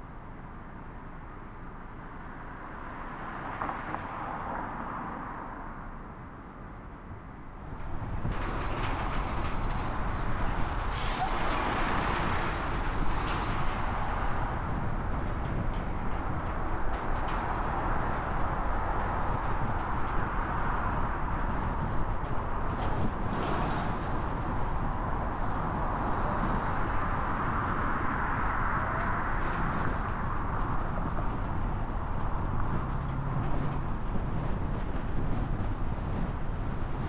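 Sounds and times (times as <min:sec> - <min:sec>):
city traffic: 0:00.0 - 0:37.0
car road noise: 0:00.4 - 0:37.0.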